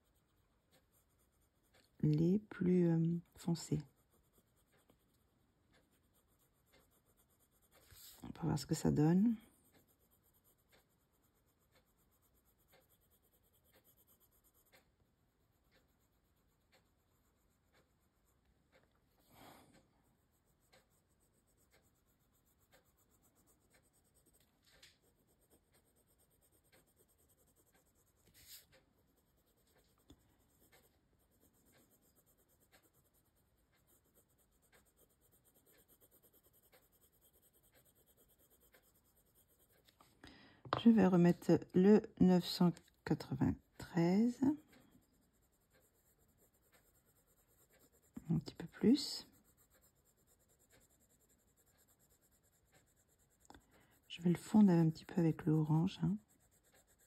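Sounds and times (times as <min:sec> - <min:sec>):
pencil scratching on paper: 0:00.0 - 0:57.0.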